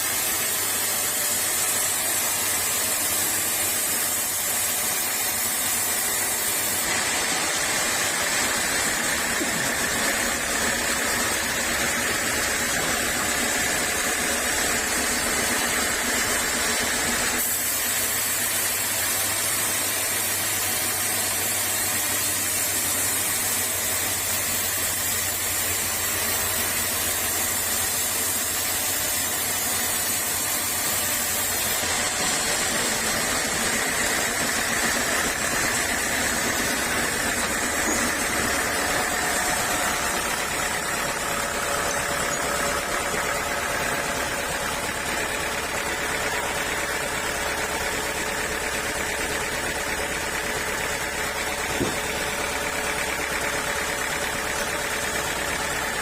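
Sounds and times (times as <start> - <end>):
sawmill saw hissing: 0.0 - 56.0.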